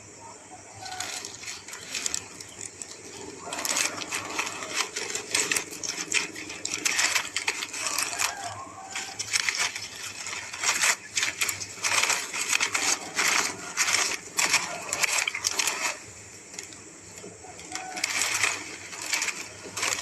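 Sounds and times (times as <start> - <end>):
crunching and rustling: 0.5 - 20.0
bird chick tearing at food: 0.8 - 20.0.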